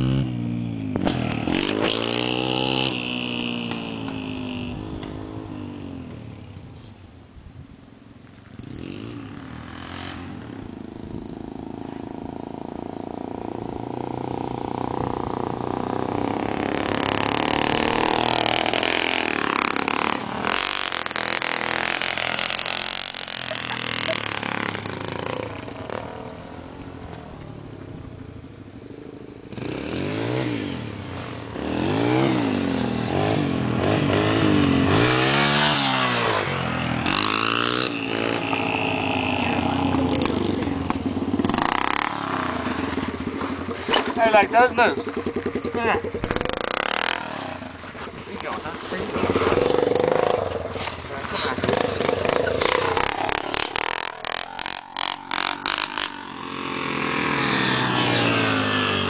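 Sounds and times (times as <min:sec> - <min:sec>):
dirt bike engine revving: 0:00.0 - 0:06.6, 0:08.6 - 0:28.1, 0:28.8 - 0:59.0.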